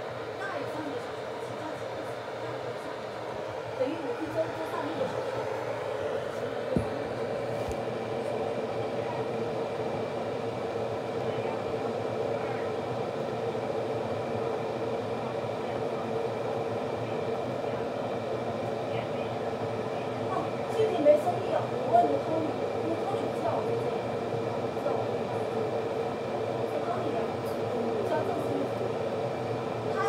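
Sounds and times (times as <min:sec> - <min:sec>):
kettle hissing: 0:00.0 - 0:30.0.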